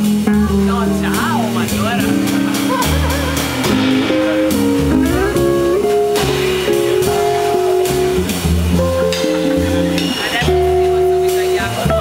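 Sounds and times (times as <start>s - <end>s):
bass line: 0.0s - 12.0s
electric jazz guitar playing: 0.0s - 12.0s.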